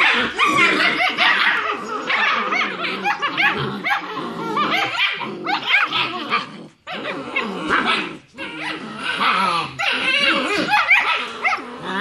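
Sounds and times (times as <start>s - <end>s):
puppies yipping and barking: 0.0s - 12.0s.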